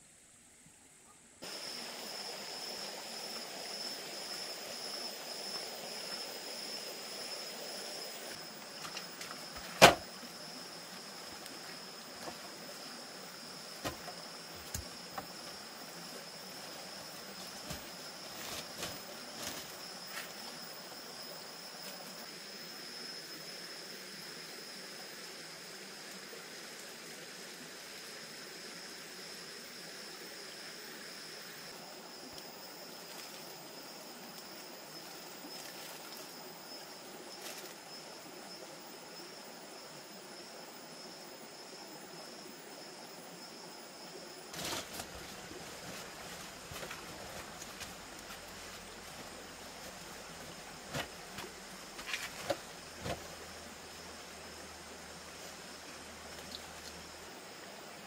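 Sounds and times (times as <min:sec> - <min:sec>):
outdoor background hiss: 0:00.0 - 0:58.0
high steady buzzing tone: 0:01.4 - 0:58.0.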